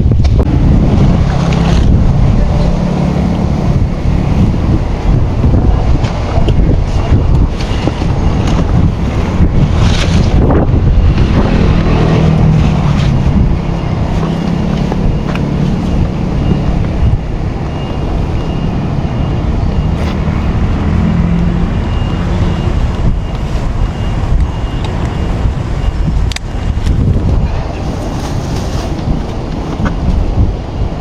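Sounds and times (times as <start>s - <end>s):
wavering low hum: 0.0s - 31.0s
wind buffeting microphone: 0.0s - 31.0s.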